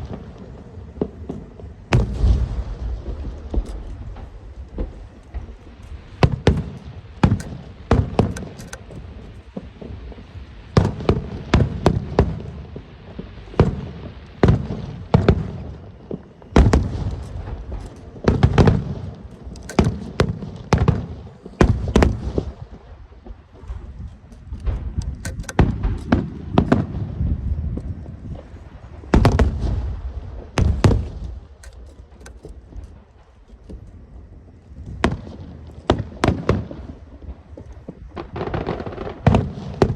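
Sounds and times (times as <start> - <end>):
fireworks sharp bangs: 0.0 - 39.9
low rumbling booms: 1.0 - 12.5, 16.6 - 39.9.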